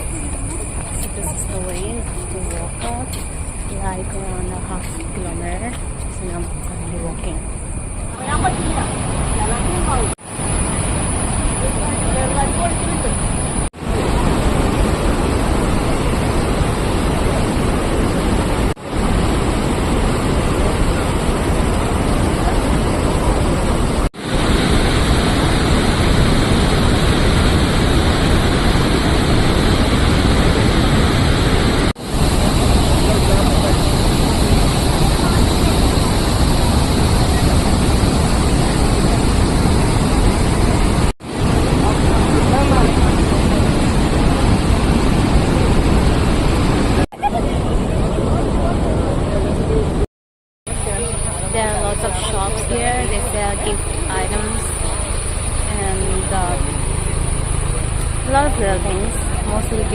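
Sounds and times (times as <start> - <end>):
loud rushing noise with rumble: 0.0 - 50.0.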